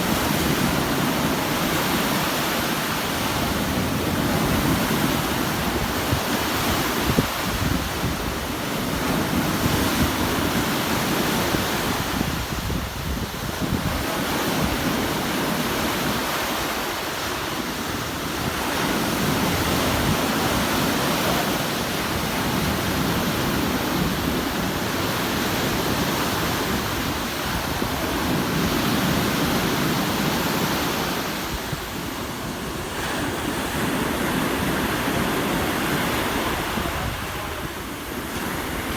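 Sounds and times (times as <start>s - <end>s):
sea waves washing onto shore: 0.0s - 38.9s
wind rumble on microphone: 0.0s - 38.9s.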